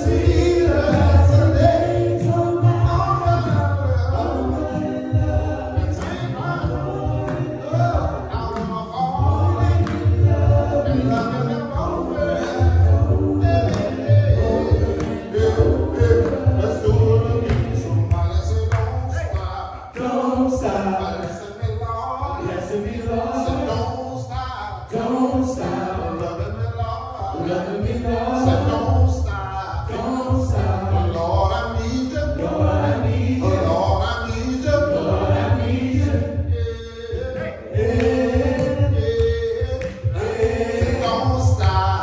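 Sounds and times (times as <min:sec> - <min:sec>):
gospel group singing: 0:00.0 - 0:42.0.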